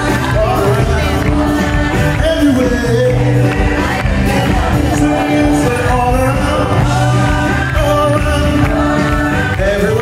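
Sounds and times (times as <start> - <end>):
band playing worship music: 0.0 - 10.0
held bass notes: 0.0 - 10.0
voices singing: 0.0 - 10.0.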